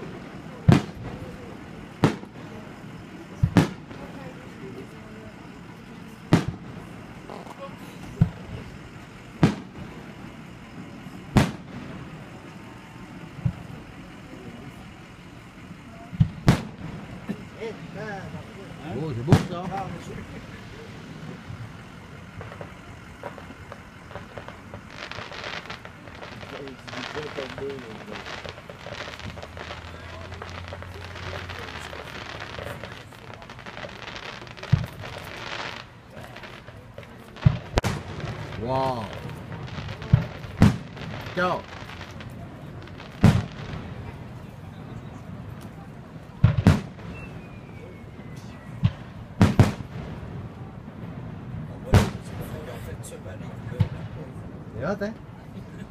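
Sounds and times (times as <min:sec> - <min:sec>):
fireworks bursting: 0:00.0 - 0:55.9
steady background noise: 0:00.0 - 0:55.9.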